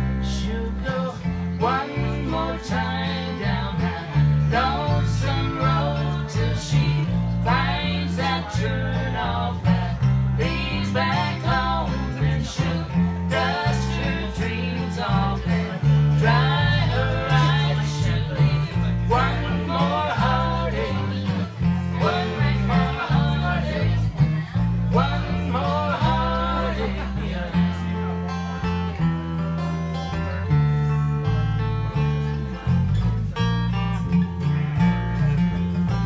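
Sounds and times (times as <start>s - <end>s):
bass line: 0.0s - 36.0s
strummed acoustic guitar: 0.0s - 36.0s.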